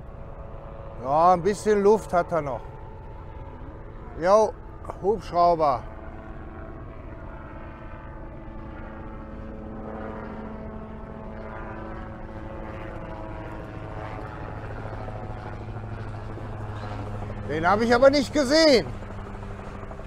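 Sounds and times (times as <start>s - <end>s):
helicopter drone overhead: 0.0s - 20.0s.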